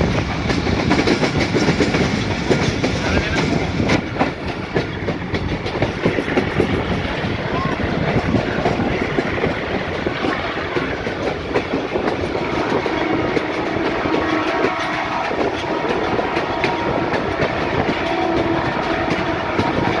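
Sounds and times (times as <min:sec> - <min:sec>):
train rumbling on track: 0:00.0 - 0:20.0
wheels clicking over rail joints: 0:00.0 - 0:20.0.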